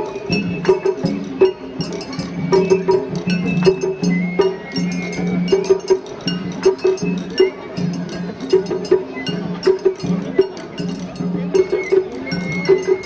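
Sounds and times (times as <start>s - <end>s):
percussion strikes: 0.0s - 13.0s.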